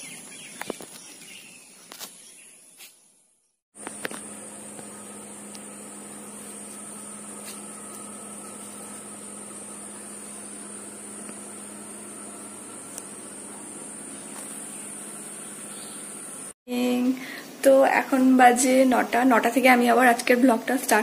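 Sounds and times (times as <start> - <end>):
steady hum with high hiss: 3.8 - 21.0.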